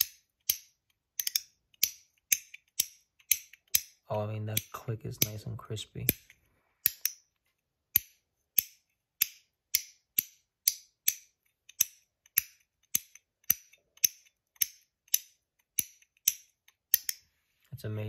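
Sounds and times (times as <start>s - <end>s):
metal fidget clicking: 0.0s - 4.0s, 4.6s - 7.3s, 7.9s - 17.2s.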